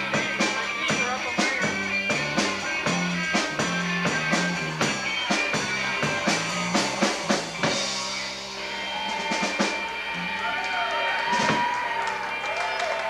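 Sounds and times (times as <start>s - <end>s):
drum kit beat: 0.0s - 10.6s, 11.2s - 12.5s
bass guitar: 0.0s - 13.0s
electric guitars: 0.0s - 13.0s.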